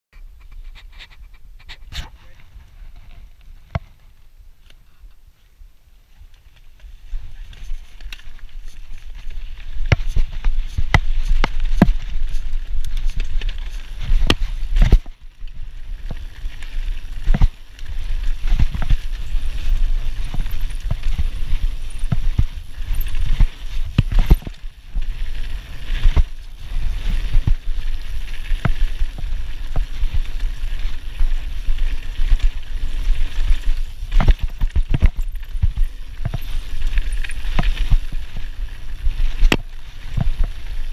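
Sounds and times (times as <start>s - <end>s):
tyres on loose ground: 0.2s - 40.9s
wind rush on microphone: 7.0s - 40.9s
bike rattling and knocking: 7.3s - 40.9s.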